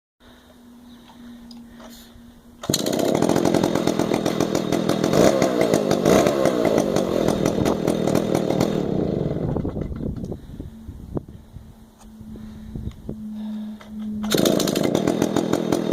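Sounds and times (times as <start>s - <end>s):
chainsaw running: 0.2s - 15.9s.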